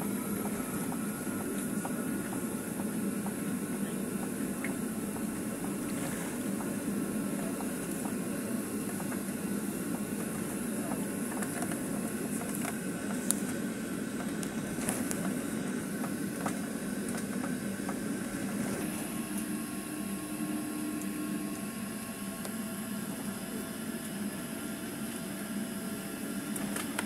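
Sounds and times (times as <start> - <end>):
air-conditioning hum: 0.0 - 27.0
jet engines idling: 0.0 - 27.0.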